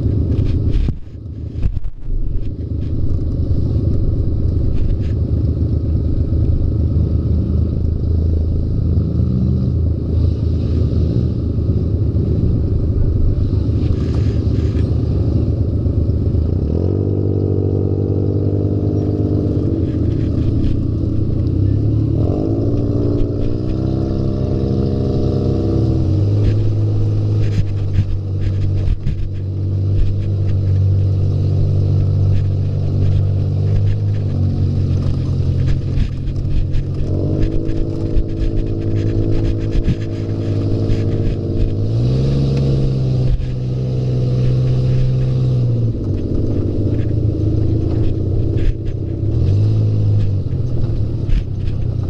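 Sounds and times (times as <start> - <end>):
clatter and rattling: 0.0 - 6.9, 12.2 - 17.2, 18.5 - 52.0
buggy engine revving: 0.0 - 52.0.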